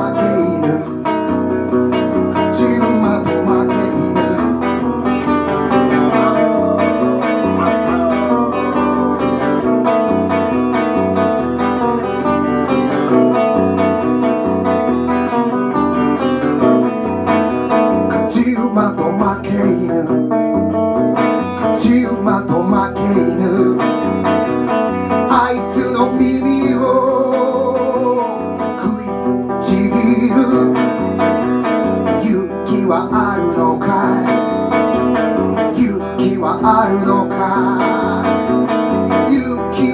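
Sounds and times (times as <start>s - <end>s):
man singing: 0.0s - 11.6s, 18.0s - 20.5s, 21.5s - 39.9s
electric guitar playing: 0.0s - 39.9s.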